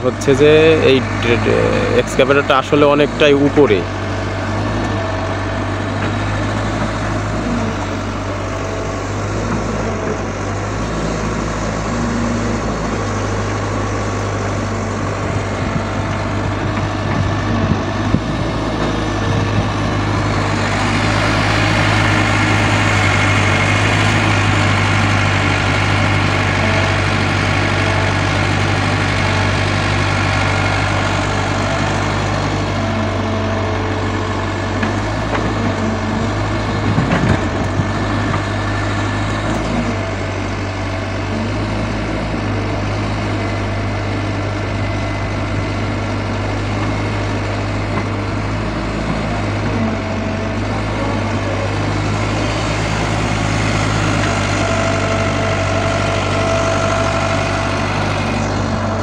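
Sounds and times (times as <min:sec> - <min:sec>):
excavator diesel engine humming: 0:00.0 - 0:59.0.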